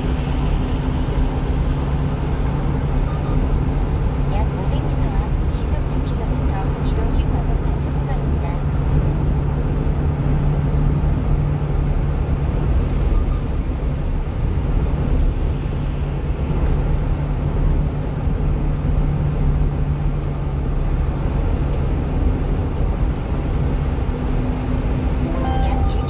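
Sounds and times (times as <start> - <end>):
truck engine hum: 0.0 - 26.0.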